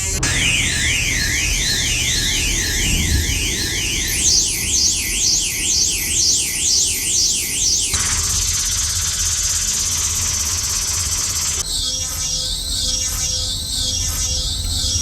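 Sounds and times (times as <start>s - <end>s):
electronic alarm tone: 0.0s - 15.0s.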